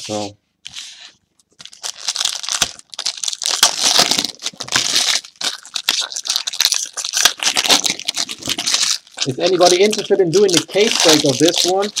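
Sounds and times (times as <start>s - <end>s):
plastic wrappers crinkling: 1.5s - 12.0s.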